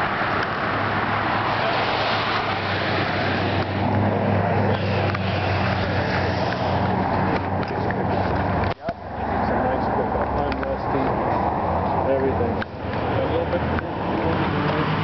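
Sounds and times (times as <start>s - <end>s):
traffic rushing: 0.0s - 15.0s.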